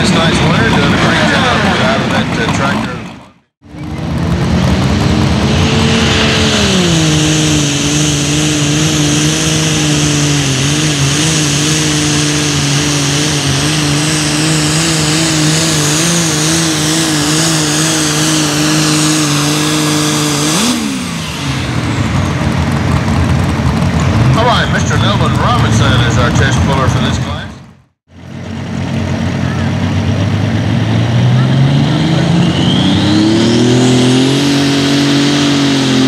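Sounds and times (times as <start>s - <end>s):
high turbo whine: 0.0s - 36.0s
tractor engine under full throttle: 0.0s - 36.0s.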